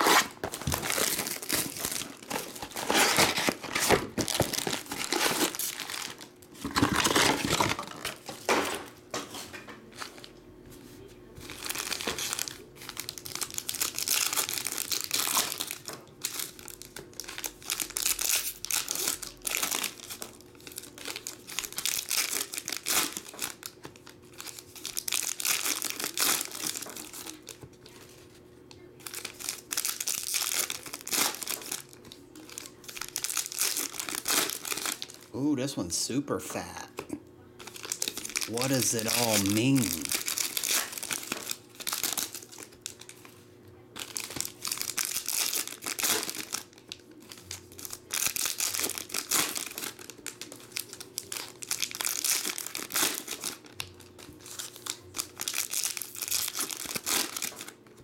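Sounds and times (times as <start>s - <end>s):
foil packs crinkling and tearing: 0.0s - 8.9s, 11.4s - 28.2s, 29.0s - 35.7s, 37.6s - 43.4s, 44.0s - 58.0s.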